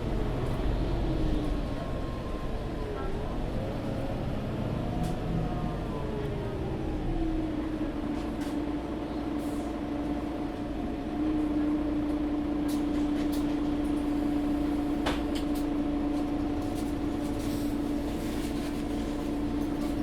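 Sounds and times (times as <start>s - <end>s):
bus drivetrain humming: 0.0s - 20.0s.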